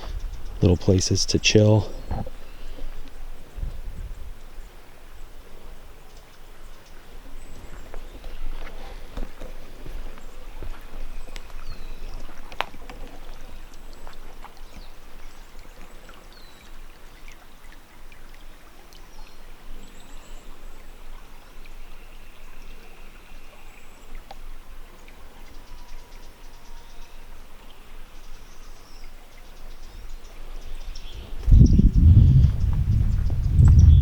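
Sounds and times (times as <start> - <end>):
small stream trickling: 0.0 - 34.0.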